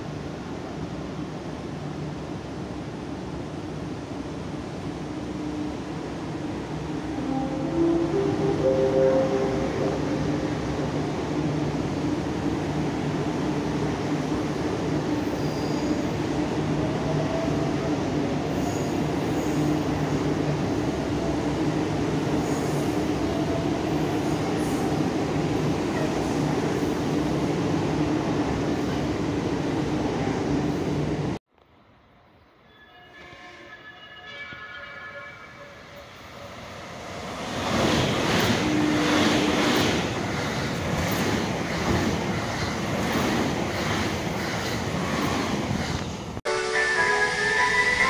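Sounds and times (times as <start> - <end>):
electric train passing: 1.5 - 48.0.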